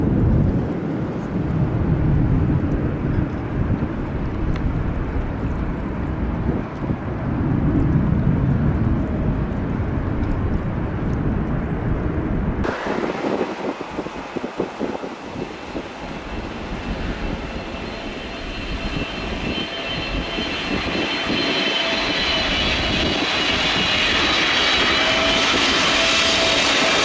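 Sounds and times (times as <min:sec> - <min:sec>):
jet airliner engine noise: 0:00.0 - 0:27.0
wind buffeting microphone: 0:00.0 - 0:27.0.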